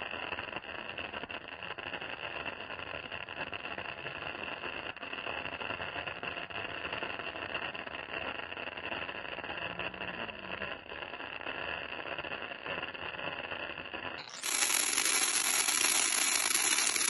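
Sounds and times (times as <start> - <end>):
firework crackling fizz: 0.0 - 17.0.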